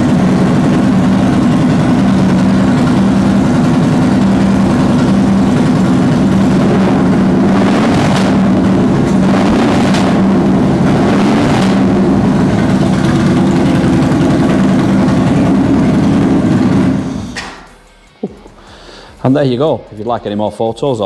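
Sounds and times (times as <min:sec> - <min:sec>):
motorcycle engine idling: 0:00.0 - 0:17.6.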